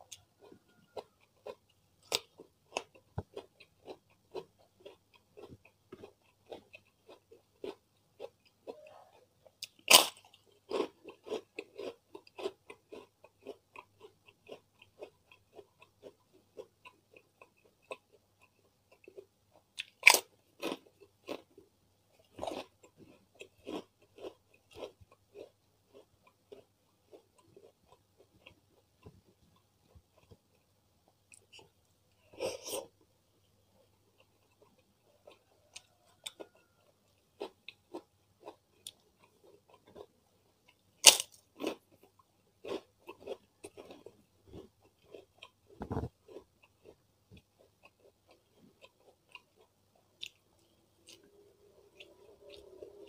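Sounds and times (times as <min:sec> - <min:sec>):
person chewing: 0:00.0 - 0:53.0
crunching bites of crackers: 0:00.1 - 0:08.8, 0:09.6 - 0:21.5, 0:22.2 - 0:30.6, 0:33.9 - 0:51.3.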